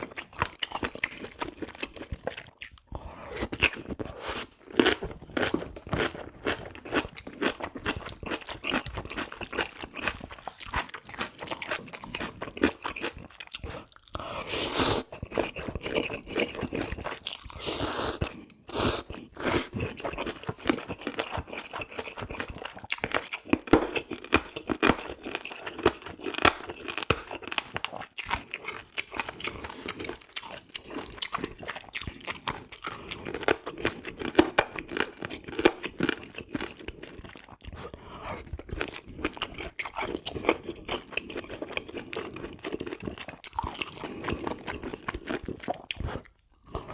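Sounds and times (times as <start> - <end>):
chewing and crunching food: 0.0 - 46.9.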